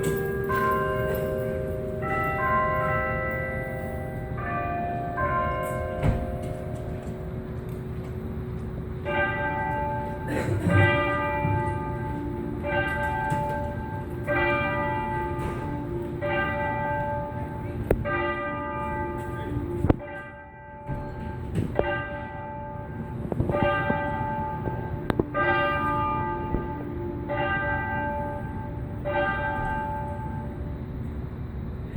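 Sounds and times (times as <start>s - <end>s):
tower bell tolling: 0.0s - 31.4s.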